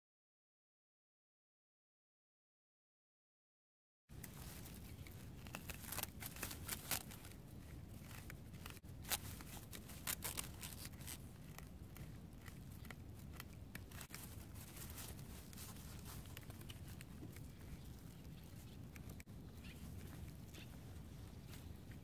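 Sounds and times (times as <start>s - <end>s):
straw rustling: 4.1s - 22.0s.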